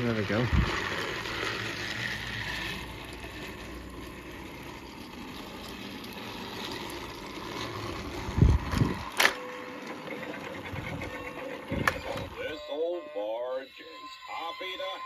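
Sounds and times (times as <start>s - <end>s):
toy train whirring: 0.0s - 15.0s.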